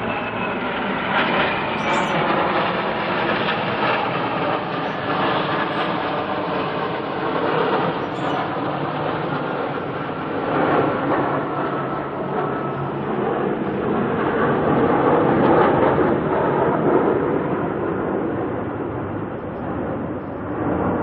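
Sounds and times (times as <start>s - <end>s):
military jets flying over: 0.0s - 21.0s.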